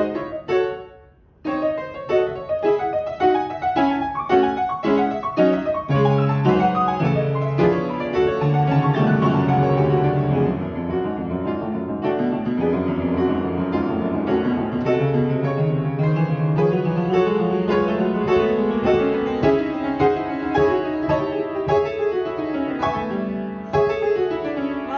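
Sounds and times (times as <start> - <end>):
piano quick notes: 0.0 - 24.9.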